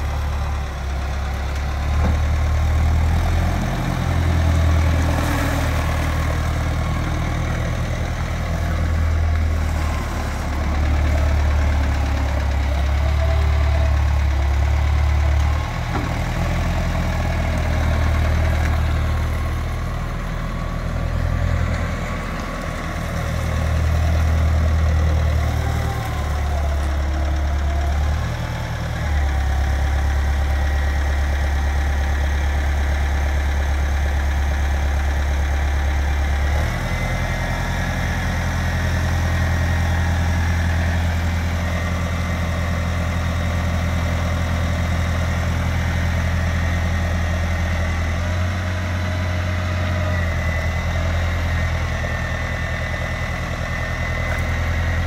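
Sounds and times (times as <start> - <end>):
diesel forklift engine running: 0.0 - 55.0.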